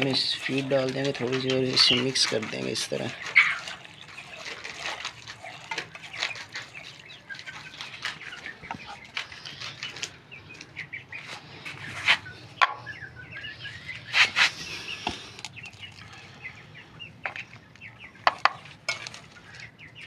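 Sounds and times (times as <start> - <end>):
chickens clucking and chirping: 0.0 - 20.0
hand mixing wet feed in pot: 0.0 - 20.0.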